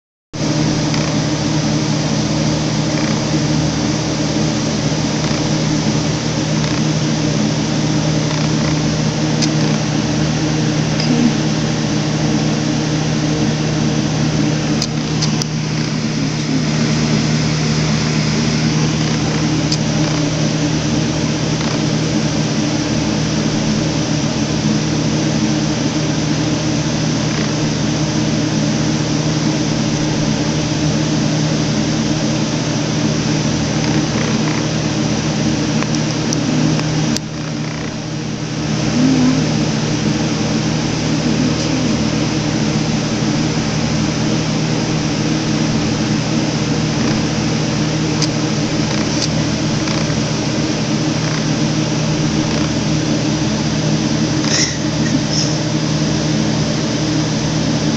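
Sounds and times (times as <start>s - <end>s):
low mechanical hum: 0.4s - 57.9s.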